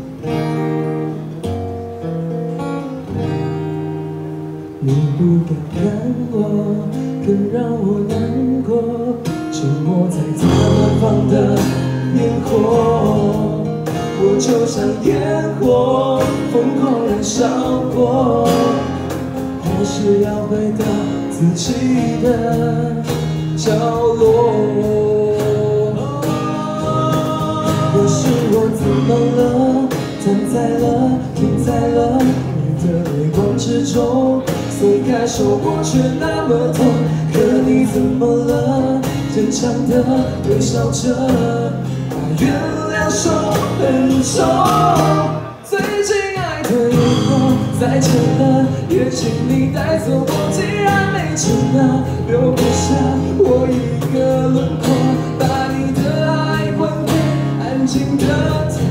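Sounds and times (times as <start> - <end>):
acoustic guitars strumming: 0.0 - 58.9
electric guitar: 0.0 - 58.9
person singing: 4.8 - 58.9
cajon beat: 9.1 - 58.9.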